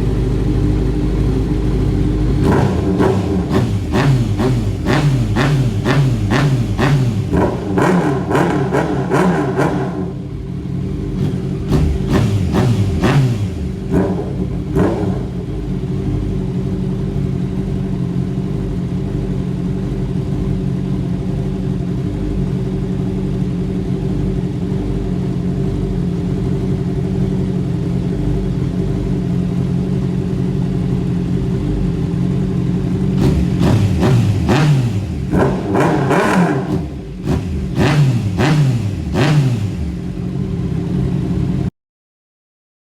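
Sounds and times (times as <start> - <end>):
motorcycle engine idling and revving: 0.0 - 41.7.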